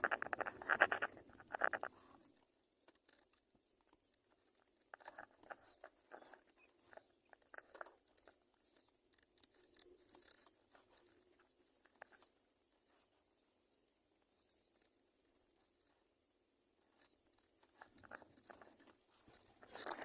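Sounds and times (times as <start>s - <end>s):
birds scratching and rustling in nest: 0.0s - 13.5s, 16.8s - 20.0s.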